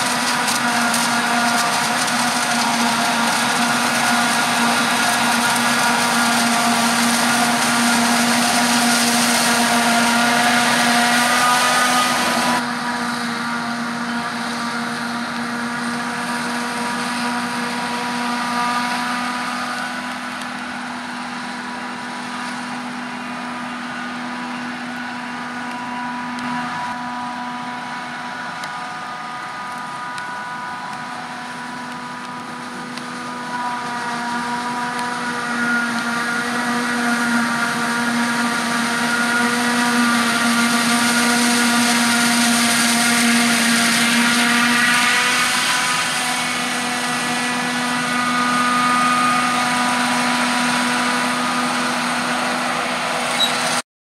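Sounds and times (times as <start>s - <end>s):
forage harvester machine drone: 0.0s - 53.8s
high whining tones: 0.0s - 53.8s.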